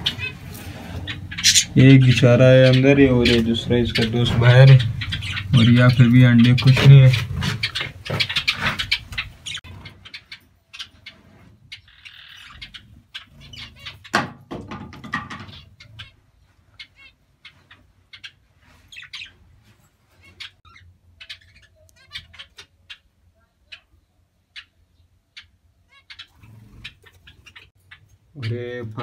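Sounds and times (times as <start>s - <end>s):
budgerigars chirping and chattering: 0.0s - 14.3s, 15.1s - 29.0s.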